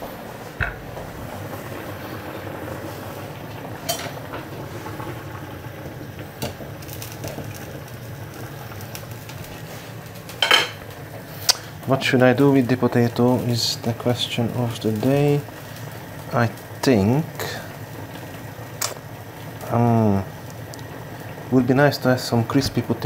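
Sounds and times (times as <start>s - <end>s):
kitchen appliance humming: 0.0s - 23.0s.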